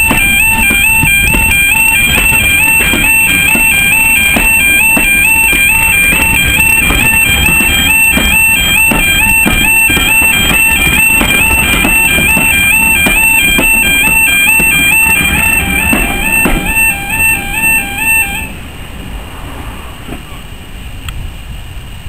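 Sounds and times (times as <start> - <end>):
train wheels clacking on rail joints: 0.0 - 18.5
two-tone crossing alarm: 0.0 - 18.7.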